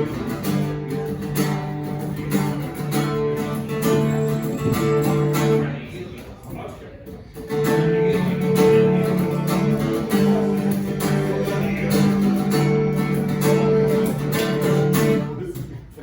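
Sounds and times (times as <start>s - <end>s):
strummed guitar chords: 0.0s - 5.8s, 7.4s - 15.6s.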